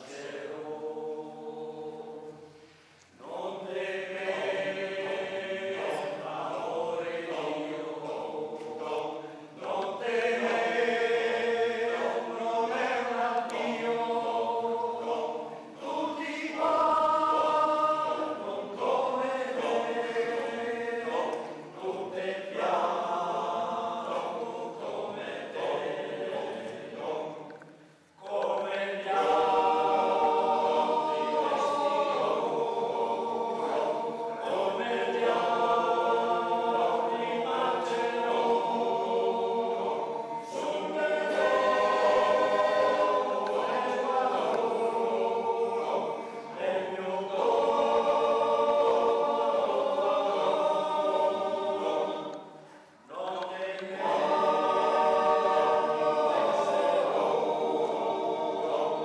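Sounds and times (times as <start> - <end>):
choir singing sustained chords: 0.0 - 59.0.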